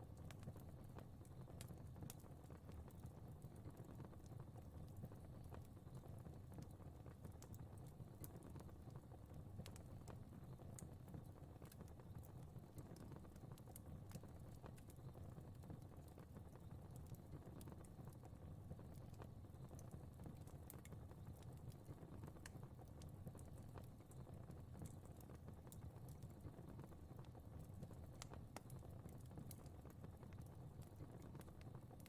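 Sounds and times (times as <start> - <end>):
faint fire crackling: 0.0 - 32.0.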